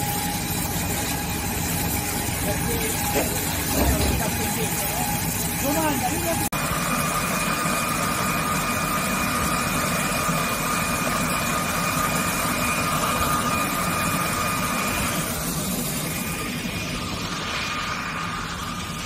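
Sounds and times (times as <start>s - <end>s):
high machine whine: 0.0s - 19.0s
wire saw cutting stone: 0.0s - 19.0s.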